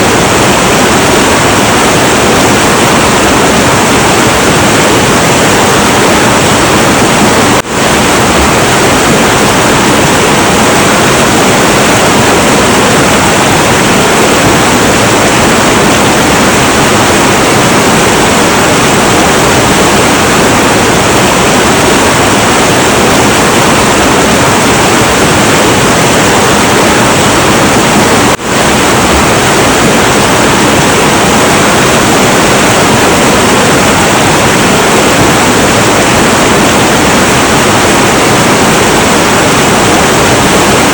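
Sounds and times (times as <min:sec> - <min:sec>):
turbulent river rushing: 0:00.0 - 0:40.9.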